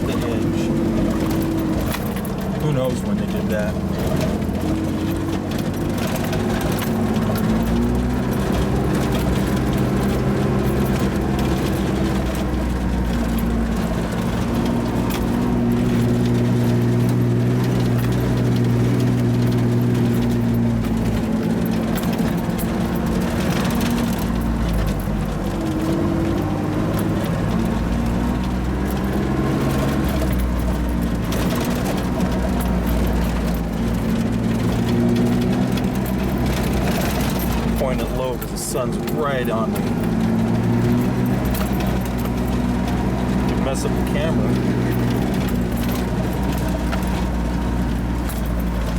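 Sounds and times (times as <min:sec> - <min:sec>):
car engine revving on dirt road: 0:00.0 - 0:48.9.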